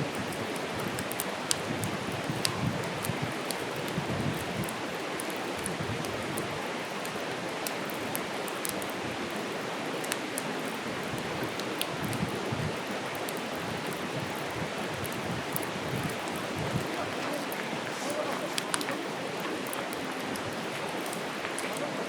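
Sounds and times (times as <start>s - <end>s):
burning wood crackling and popping: 0.0s - 22.0s
campfire flames rushing: 0.0s - 22.0s.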